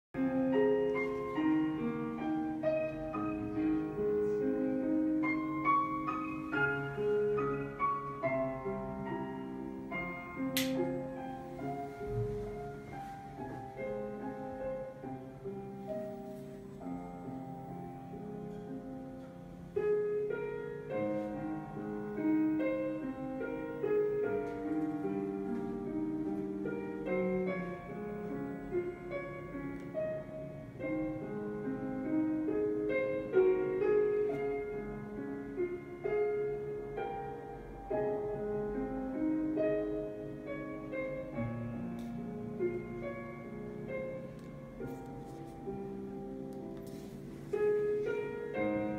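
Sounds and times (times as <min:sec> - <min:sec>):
calm piano music: 0:00.1 - 0:48.9.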